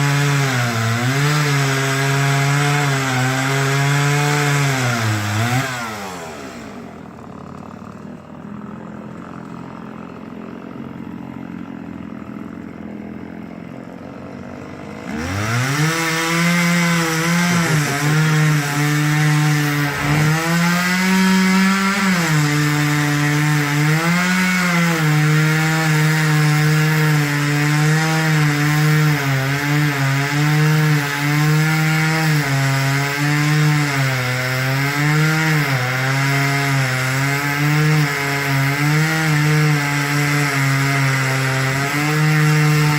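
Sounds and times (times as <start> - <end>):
chainsaw revving and cutting wood: 0.0 - 42.9.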